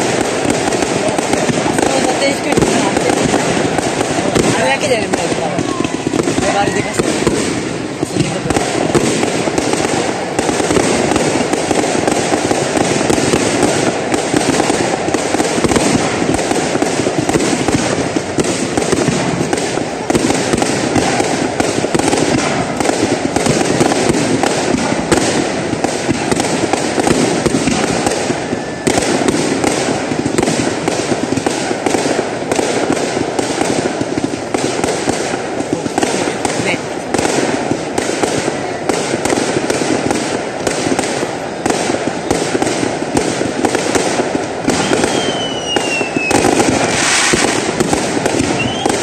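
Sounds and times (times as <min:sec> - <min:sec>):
fireworks bangs and crackles: 0:00.0 - 0:49.0
fireworks bursting: 0:00.0 - 0:49.0.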